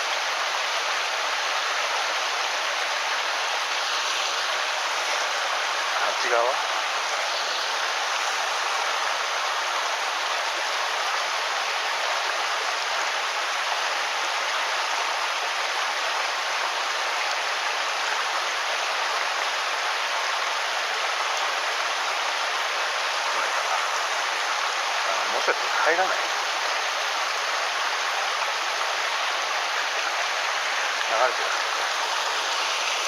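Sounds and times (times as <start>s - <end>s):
stream water rushing over rocks: 0.0s - 33.0s.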